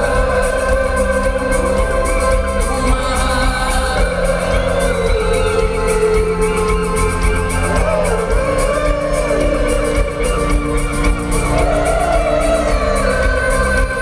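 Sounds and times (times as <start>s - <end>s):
drums: 0.0s - 14.0s
guitar: 0.0s - 14.0s
keyboards: 0.0s - 14.0s.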